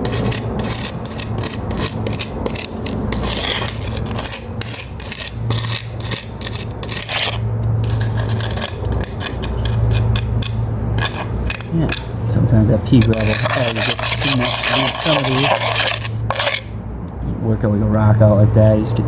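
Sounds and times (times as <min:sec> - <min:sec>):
float scraping over gravel concrete: 0:00.0 - 0:16.8.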